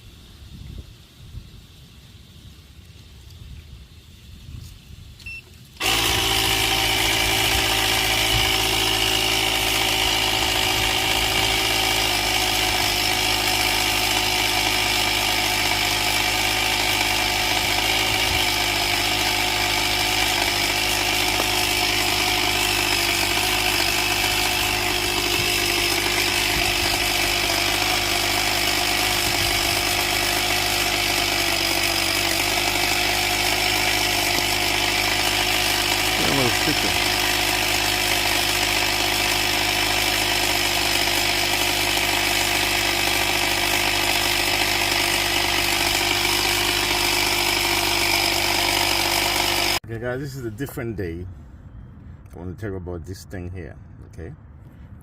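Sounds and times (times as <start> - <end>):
air compressor motor whine: 3.9 - 49.8.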